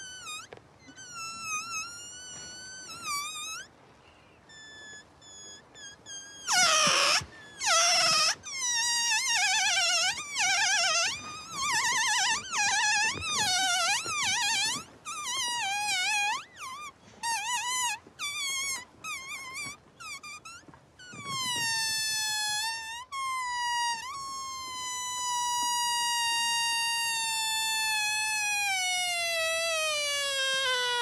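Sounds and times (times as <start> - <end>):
air squealing out of balloon: 0.0 - 31.0.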